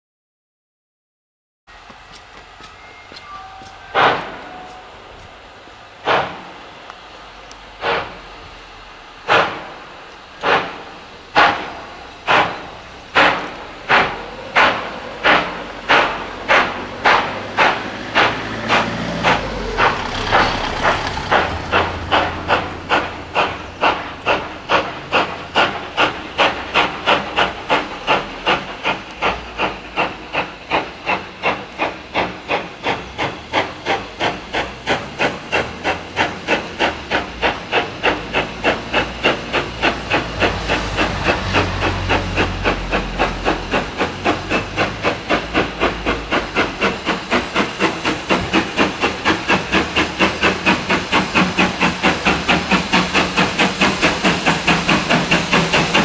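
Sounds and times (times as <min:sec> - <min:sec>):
steam locomotive chuffing: 0:01.7 - 0:56.0.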